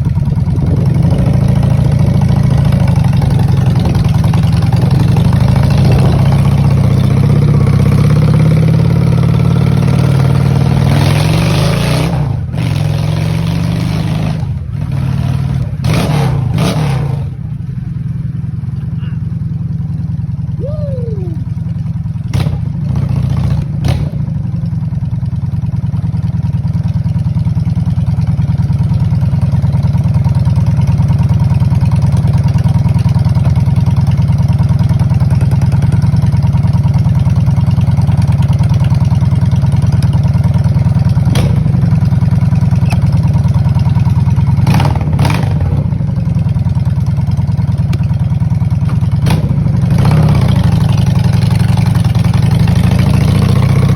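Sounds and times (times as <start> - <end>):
motorcycle engine deep exhaust: 0.0 - 53.9.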